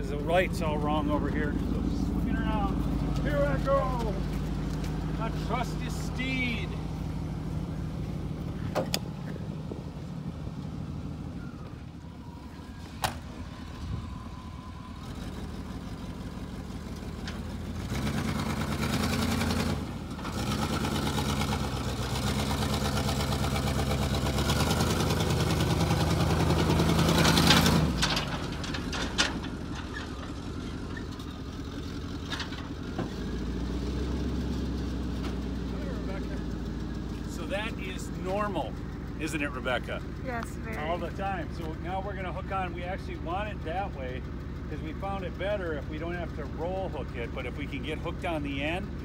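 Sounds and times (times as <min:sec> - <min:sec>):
pickup truck engine running: 0:00.0 - 0:49.0.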